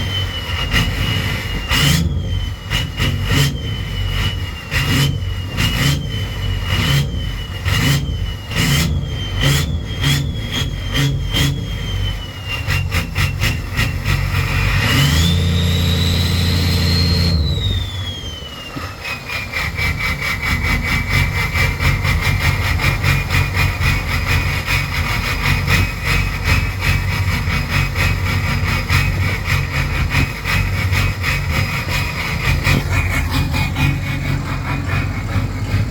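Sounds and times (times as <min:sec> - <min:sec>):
diesel engine rough idle: 0:00.0 - 0:35.9
turbo whine: 0:00.0 - 0:35.9.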